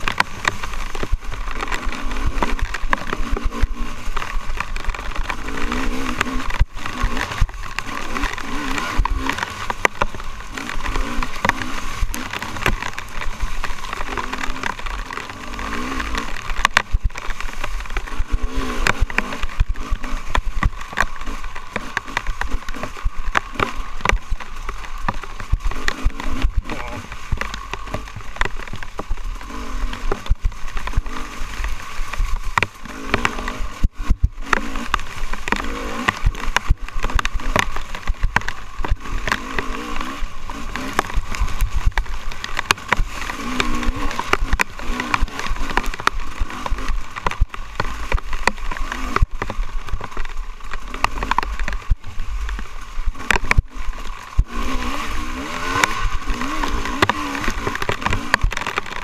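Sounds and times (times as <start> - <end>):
bike knocks and rattles: 0.0 - 59.0
dirt bike engine revving: 0.0 - 59.0.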